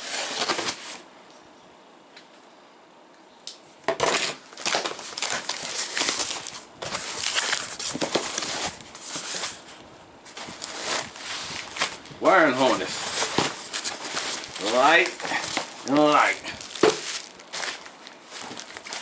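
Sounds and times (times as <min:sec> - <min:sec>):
packaging rustling and crinkling: 0:00.0 - 0:01.0, 0:03.9 - 0:19.0.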